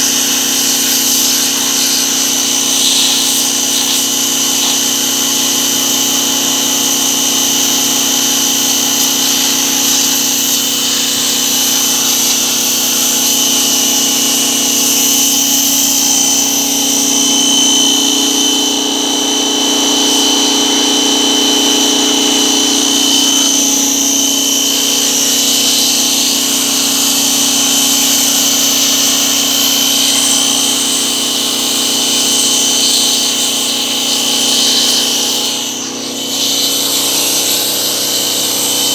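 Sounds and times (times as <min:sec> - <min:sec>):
pressure washer motor whine: 0:00.0 - 0:38.9
water jet hissing: 0:00.0 - 0:38.9.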